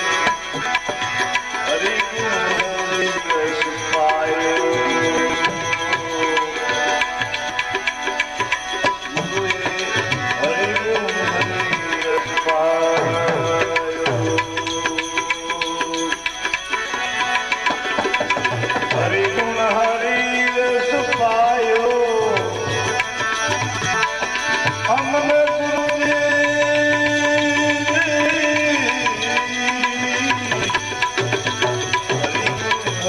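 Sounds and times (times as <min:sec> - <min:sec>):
tabla drumming: 0:00.0 - 0:33.0.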